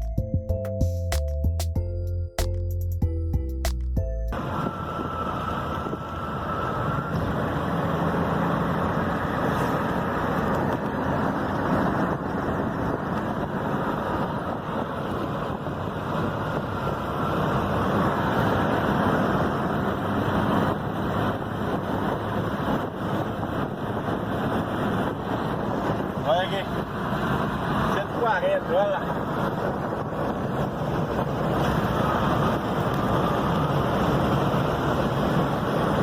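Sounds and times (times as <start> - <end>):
vehicle road noise: 0.0 - 36.0
wind noise: 4.3 - 36.0.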